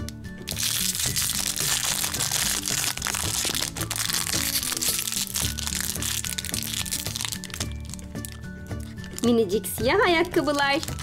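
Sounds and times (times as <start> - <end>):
background music: 0.0 - 11.0
plastic wrapping crinkling: 0.5 - 11.0.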